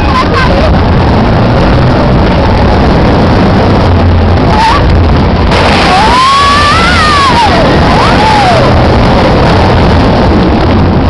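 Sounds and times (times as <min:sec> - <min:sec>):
storm wind buffeting microphone: 0:00.0 - 0:11.0
wind whistling: 0:00.0 - 0:11.0.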